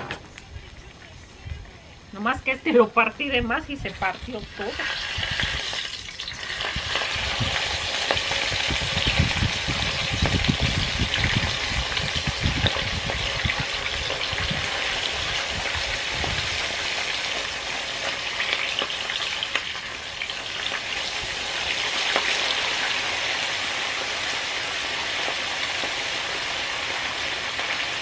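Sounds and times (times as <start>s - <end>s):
fish sizzling in hot oil: 3.2s - 28.0s.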